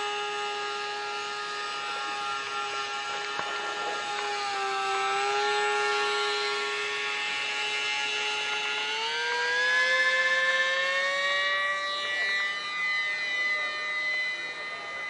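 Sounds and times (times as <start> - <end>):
model plane motor whining: 0.0 - 15.0.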